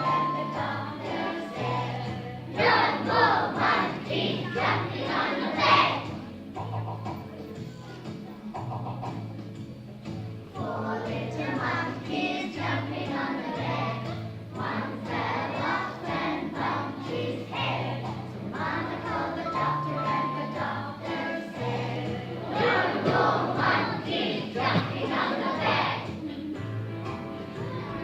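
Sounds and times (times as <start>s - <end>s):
voices singing children's song: 0.0s - 9.0s, 10.1s - 28.0s.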